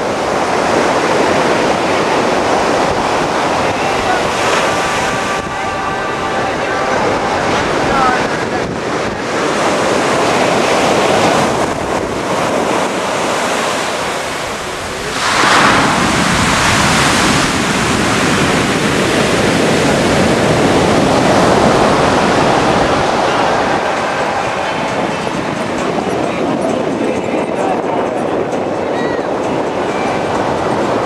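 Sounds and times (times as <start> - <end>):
surf breaking on beach: 0.0 - 31.0
wind buffeting microphone: 0.0 - 31.0.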